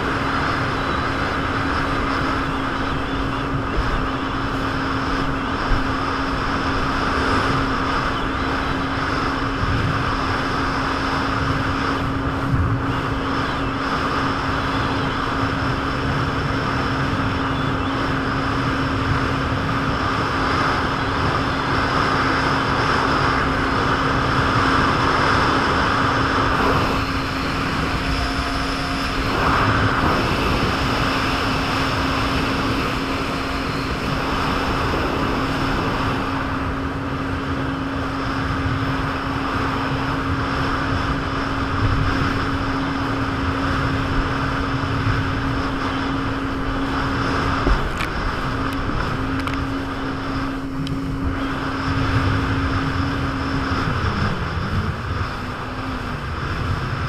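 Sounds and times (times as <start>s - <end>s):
jet ski engine running: 0.0s - 57.0s
wind and water rushing: 0.0s - 57.0s.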